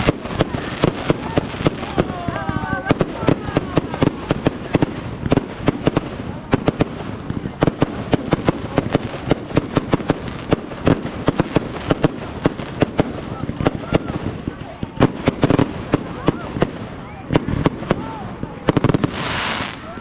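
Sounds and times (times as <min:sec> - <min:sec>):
fireworks cracks and bangs: 0:00.0 - 0:20.0.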